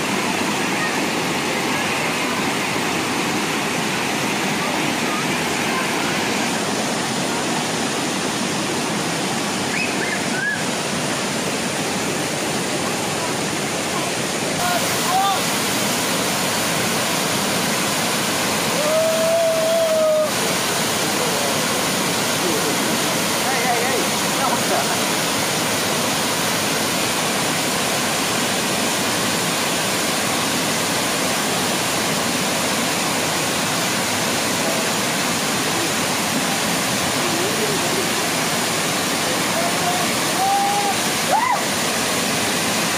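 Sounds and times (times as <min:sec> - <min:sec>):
waterfall splashing over rocks: 0:00.0 - 0:42.9.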